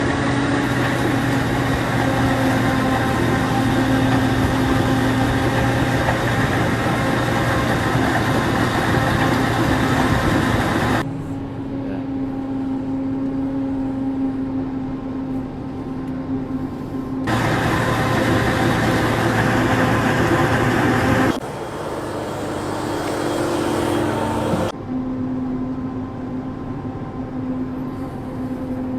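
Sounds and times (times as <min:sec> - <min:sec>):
combine harvester engine drone: 0:00.0 - 0:28.9.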